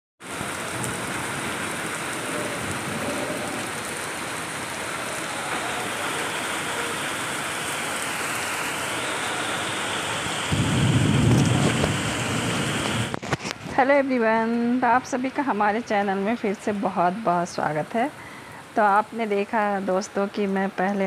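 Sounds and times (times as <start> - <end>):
heavy rain on trees and paving: 0.2 - 21.0.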